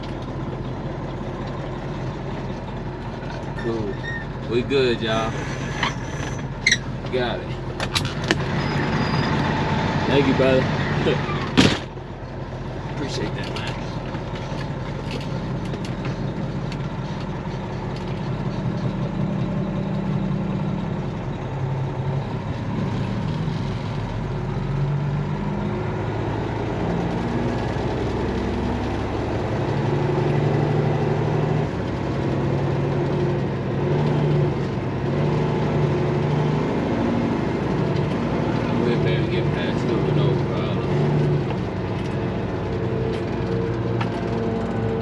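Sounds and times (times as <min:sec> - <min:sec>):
truck diesel engine running: 0:00.0 - 0:45.0.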